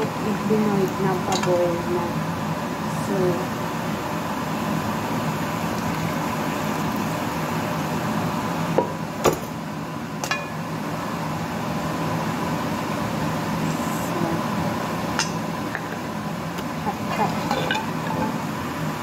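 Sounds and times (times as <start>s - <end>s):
fan humming: 0.0s - 19.0s.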